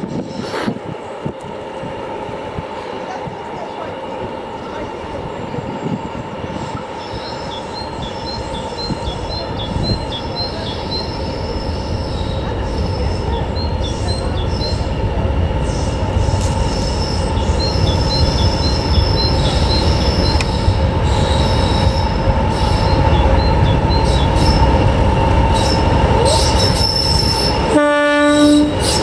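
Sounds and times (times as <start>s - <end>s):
diesel locomotive engine whine: 0.0s - 29.0s.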